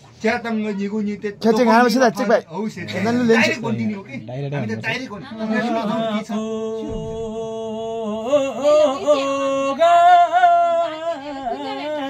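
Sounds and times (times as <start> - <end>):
man singing unaccompanied: 0.5 - 12.0.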